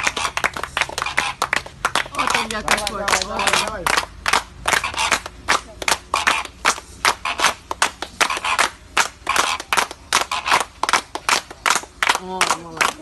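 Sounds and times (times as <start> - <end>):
hands clapping: 0.0 - 13.0.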